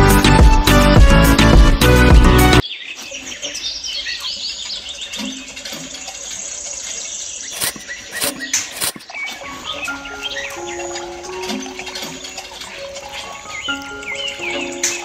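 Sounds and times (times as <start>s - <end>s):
small birds chirping: 2.6s - 15.0s.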